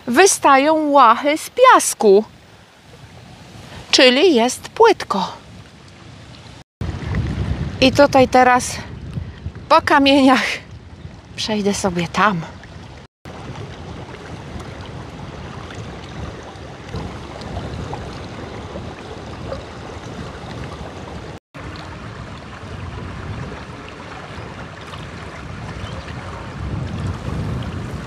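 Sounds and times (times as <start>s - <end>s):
water lapping: 0.0s - 7.4s, 8.7s - 28.0s
wind buffeting microphone: 2.2s - 28.0s.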